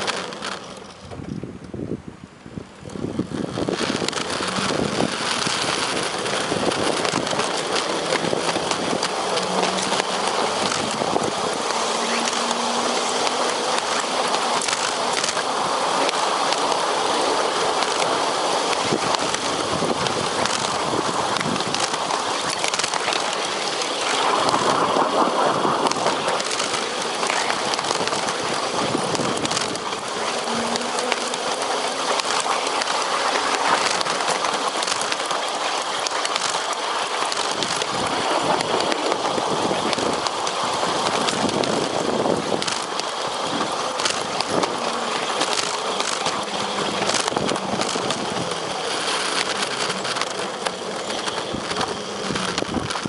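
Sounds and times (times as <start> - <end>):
sharp clicks and clatter: 0.0 - 1.8, 2.8 - 53.0
wheels rolling on rail: 0.0 - 53.0.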